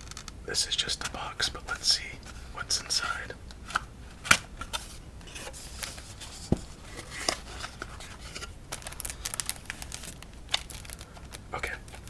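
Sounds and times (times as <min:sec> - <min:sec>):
paper packaging crinkling: 0:00.0 - 0:12.0.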